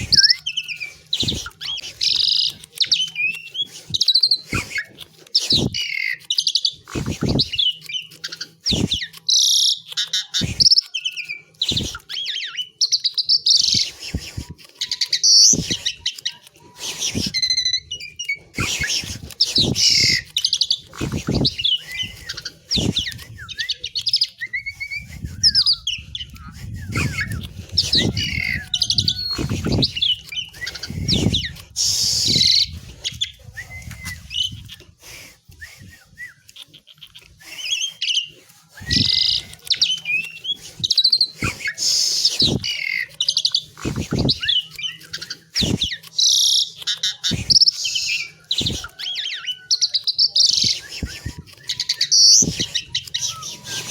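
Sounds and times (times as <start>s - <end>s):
bird singing whistles and chatters: 0.0s - 53.9s.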